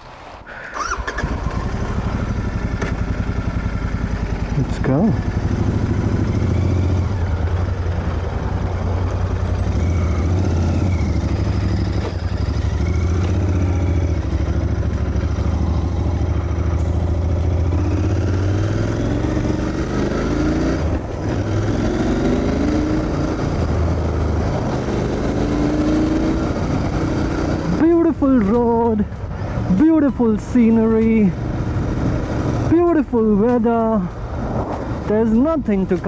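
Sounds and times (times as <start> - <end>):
motorcycle engine revving: 0.8 - 36.0.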